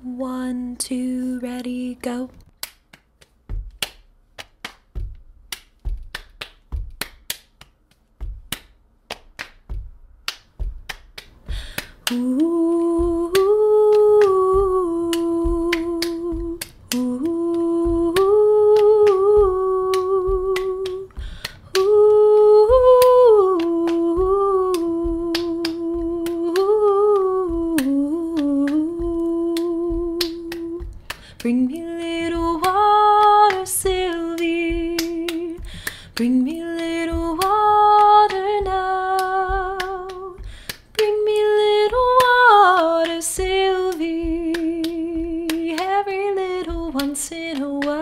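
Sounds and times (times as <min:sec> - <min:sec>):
finger snaps and claps: 0:02.4 - 0:48.0
hands patting chest: 0:02.5 - 0:48.0.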